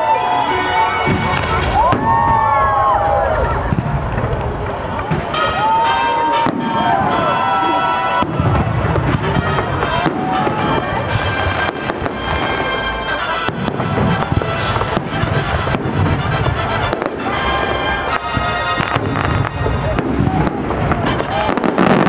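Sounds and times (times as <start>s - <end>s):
music playing: 0.0s - 22.0s
fireworks bangs with crackling: 1.0s - 22.0s.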